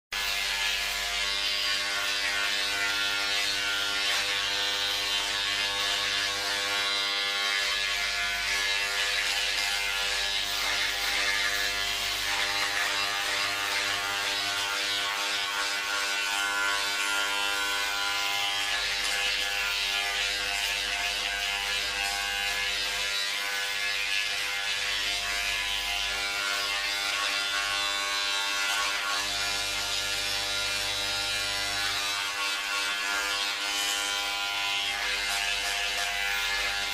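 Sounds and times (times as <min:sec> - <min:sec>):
electric hair clippers humming: 0:00.2 - 0:36.9.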